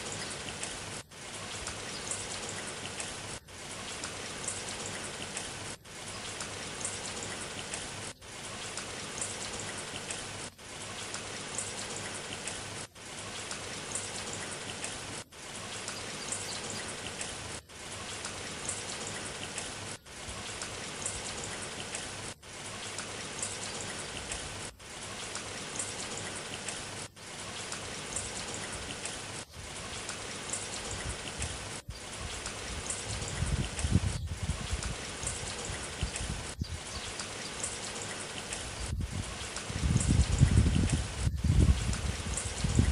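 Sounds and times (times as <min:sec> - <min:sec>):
rain hissing: 0:00.0 - 0:42.9.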